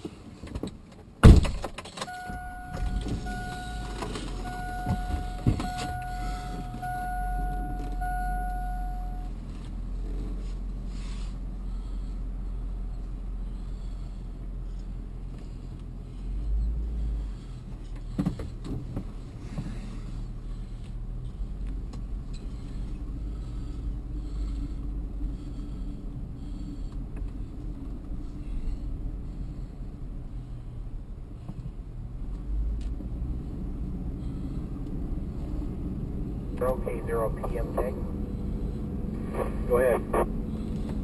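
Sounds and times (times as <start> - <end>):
car engine rumble in cabin: 0.0 - 41.0.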